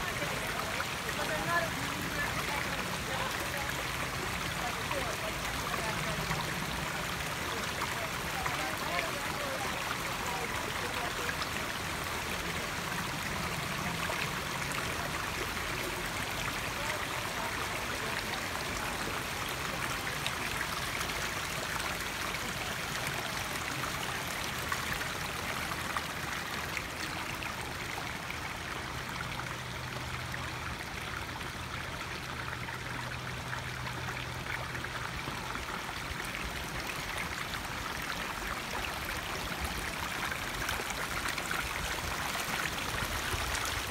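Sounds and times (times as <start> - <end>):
creek flowing over rocks: 0.0 - 43.9.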